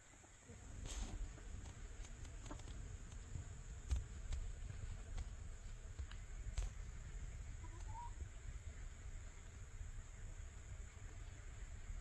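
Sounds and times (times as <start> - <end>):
insect drone: 0.0 - 12.0
faint rustles: 0.1 - 12.0.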